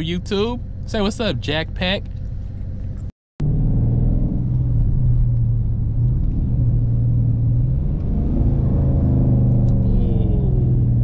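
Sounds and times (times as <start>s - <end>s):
car engine exhaust drone: 0.0s - 11.0s.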